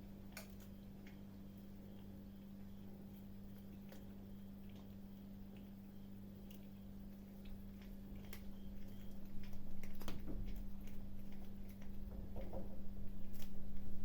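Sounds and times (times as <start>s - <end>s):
kittens chewing food: 0.0s - 14.0s
steady low hum: 0.0s - 14.0s.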